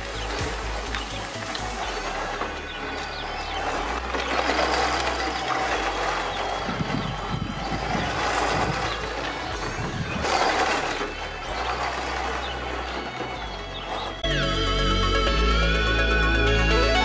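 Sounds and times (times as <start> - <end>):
electric motor whining: 0.0 - 17.0
tyres crunching on gravel: 0.0 - 17.0.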